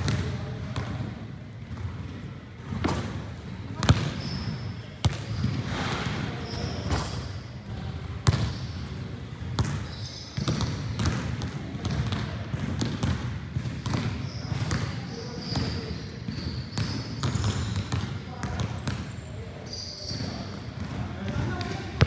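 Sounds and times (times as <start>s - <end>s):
basketballs bouncing: 0.0s - 19.1s, 20.0s - 22.0s
sneakers squeaking on court: 1.6s - 22.0s.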